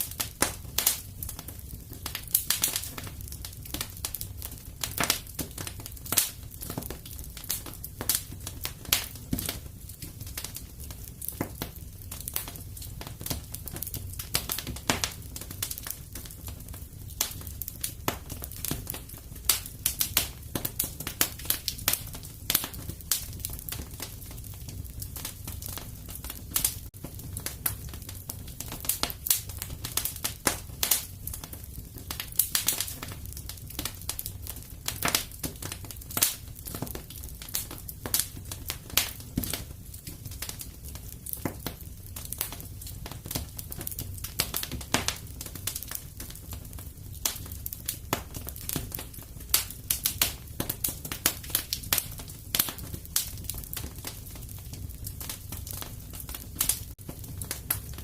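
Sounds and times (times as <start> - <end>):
burning logs crackling and popping: 0.0 - 58.0
low rumble of flame: 0.0 - 58.0.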